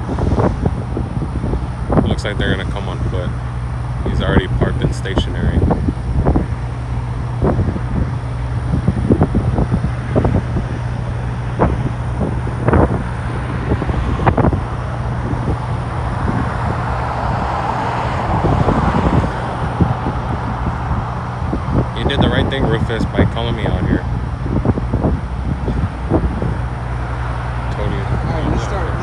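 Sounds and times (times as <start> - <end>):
low engine hum: 0.0 - 29.0
passing vehicle: 0.0 - 29.0.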